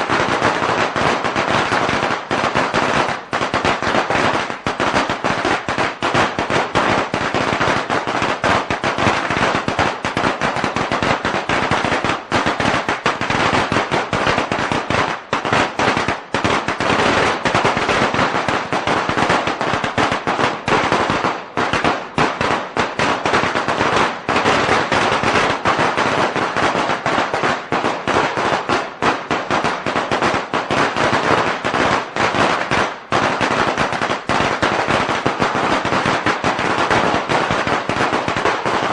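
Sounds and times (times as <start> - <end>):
firecrackers banging: 0.0 - 38.9.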